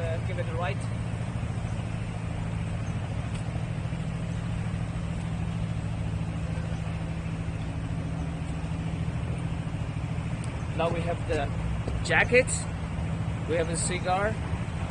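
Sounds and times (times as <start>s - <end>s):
background traffic noise: 0.0s - 14.9s
distant engine humming: 0.0s - 14.9s.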